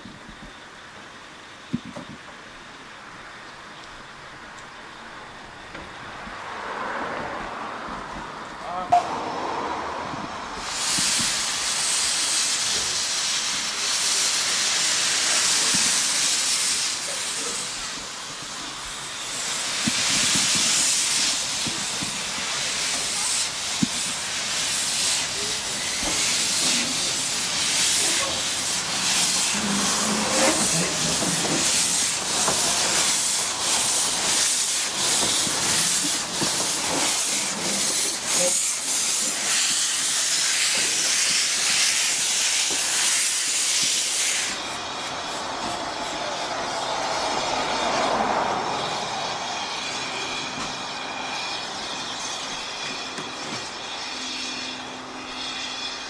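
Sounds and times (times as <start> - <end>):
steam locomotive hissing: 0.0 - 56.0
steam locomotive chuffing: 8.7 - 56.0.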